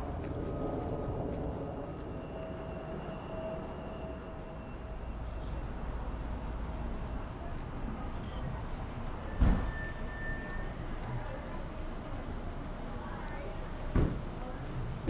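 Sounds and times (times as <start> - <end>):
low airport rumble: 0.0 - 15.0.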